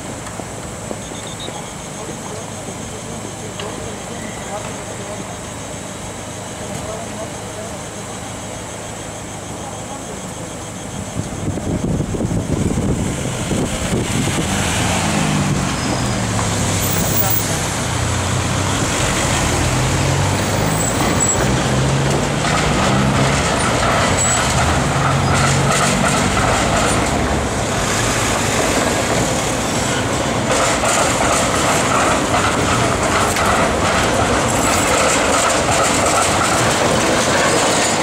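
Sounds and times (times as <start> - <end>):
car traffic: 0.0 - 38.0
tram wheels rumbling on rails: 0.0 - 38.0
tram whine: 0.0 - 38.0.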